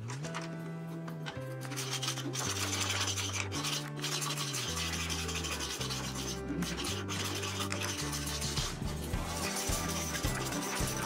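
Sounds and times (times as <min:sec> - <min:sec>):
background music with bass line: 0:00.0 - 0:11.0
tool rasping on plywood edge: 0:01.6 - 0:11.0.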